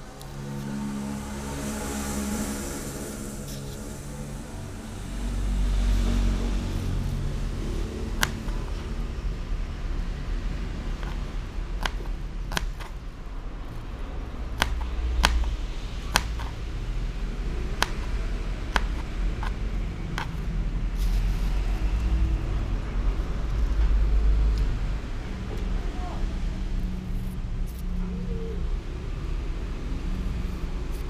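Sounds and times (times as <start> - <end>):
low rumble: 0.0 - 30.8.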